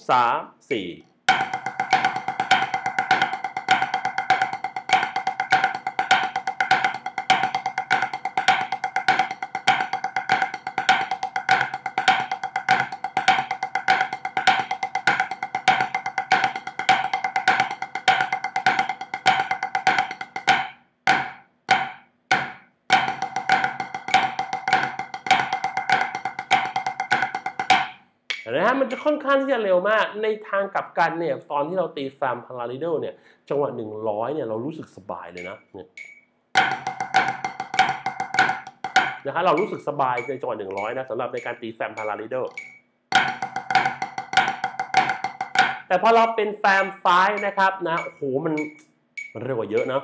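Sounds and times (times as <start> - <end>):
drumsticks on a practice pad: 1.3 - 29.2, 35.4 - 50.0.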